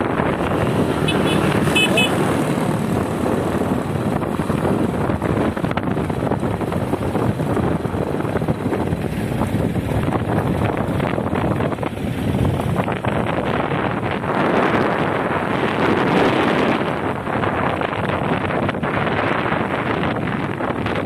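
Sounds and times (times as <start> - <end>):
moving vehicle running noise: 0.0 - 21.0
wind rushing over microphone: 0.0 - 21.0.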